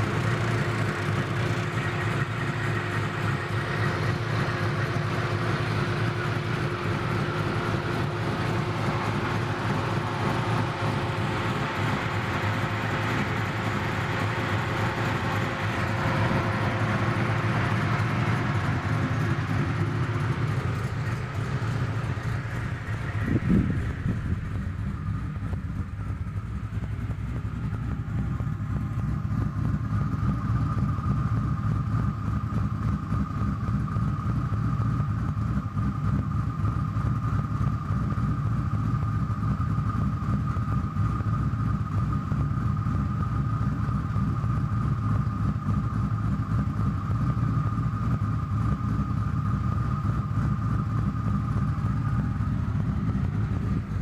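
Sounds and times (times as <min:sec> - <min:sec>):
engine idling: 0:00.0 - 0:54.0
steady high whine: 0:00.0 - 0:54.0.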